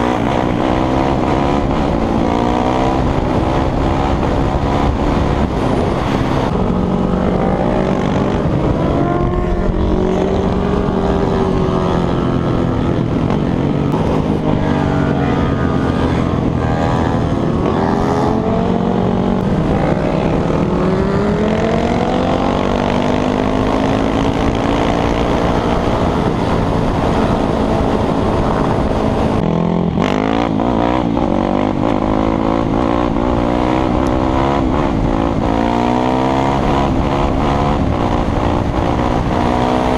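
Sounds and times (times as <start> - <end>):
motorcycle engines revving: 0.0 - 39.9
wind noise: 0.0 - 39.9.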